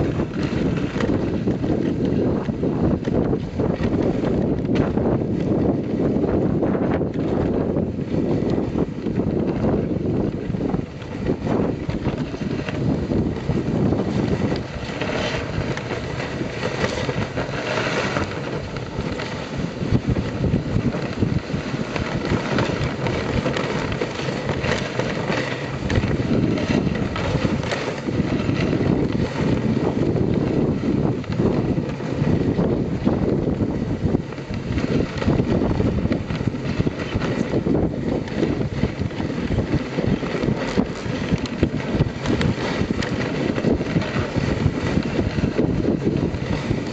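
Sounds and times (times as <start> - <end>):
sled scraping over snow: 0.0 - 46.9
wind buffeting microphone: 0.0 - 46.9.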